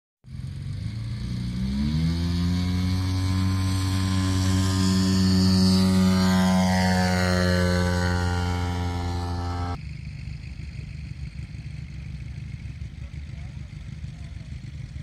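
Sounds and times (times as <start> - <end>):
model aircraft engine revving: 0.3 - 15.0.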